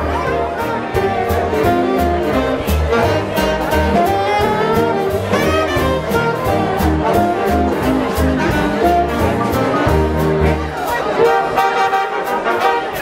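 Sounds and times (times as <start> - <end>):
swing big band playing: 0.0 - 13.0.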